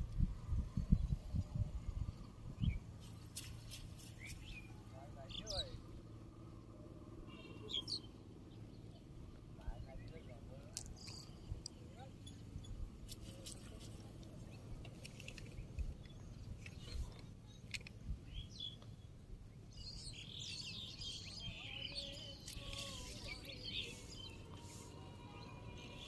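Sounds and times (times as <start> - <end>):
low steady rumble: 0.0 - 26.0
small birds chirping: 0.8 - 6.6, 7.2 - 26.0.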